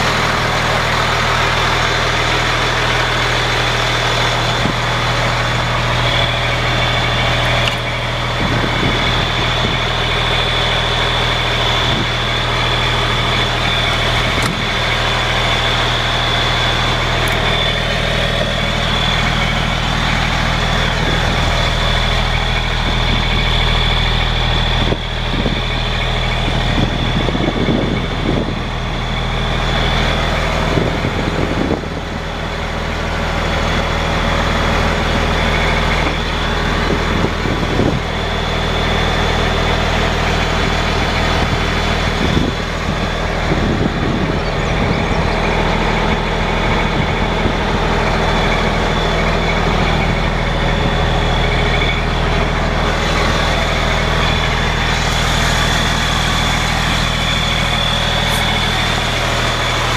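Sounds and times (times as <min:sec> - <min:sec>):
diesel engine idling: 0:00.0 - 0:59.9
high-pitched whine: 0:00.0 - 0:59.9.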